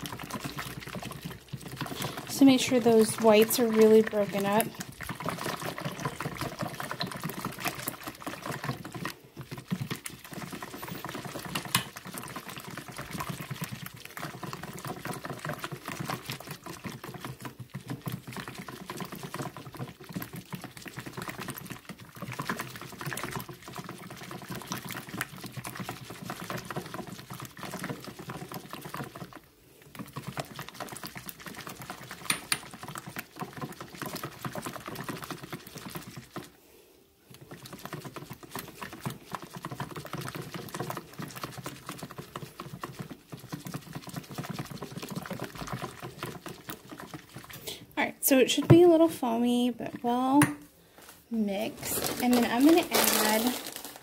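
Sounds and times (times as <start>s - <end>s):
whisk beating liquid in a bowl: 0.0s - 36.6s, 37.3s - 50.6s, 51.6s - 53.6s.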